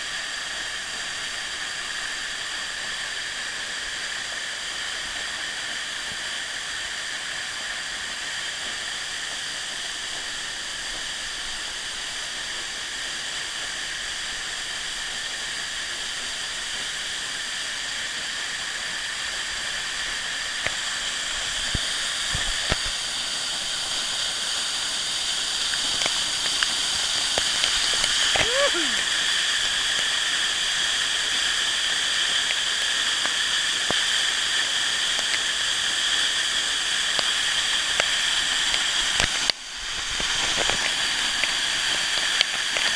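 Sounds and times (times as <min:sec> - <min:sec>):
waterfall rushing hiss: 0:00.0 - 0:42.9.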